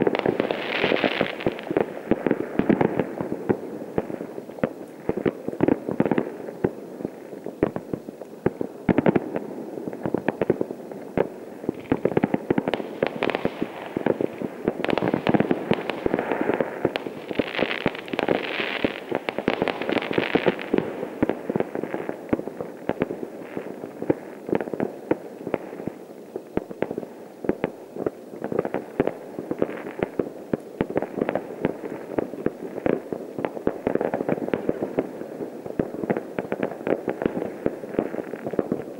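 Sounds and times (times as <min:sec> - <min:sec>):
fireworks and firecrackers popping: 0:00.0 - 0:38.9.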